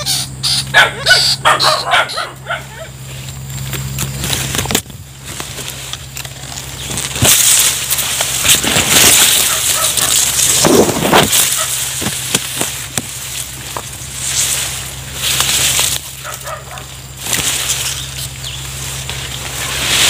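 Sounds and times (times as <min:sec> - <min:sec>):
grass and leaves rustling: 0:00.0 - 0:20.0
stalks snapping: 0:03.6 - 0:20.0.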